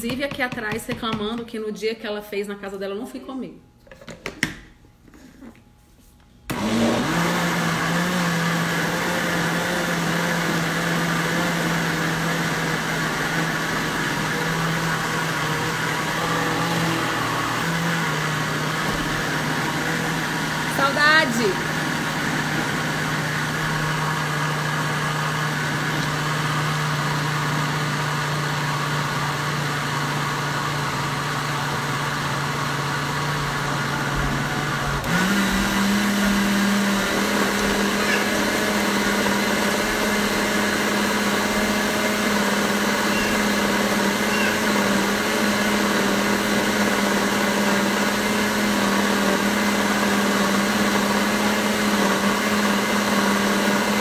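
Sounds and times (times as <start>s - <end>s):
blender motor running: 6.5s - 54.0s.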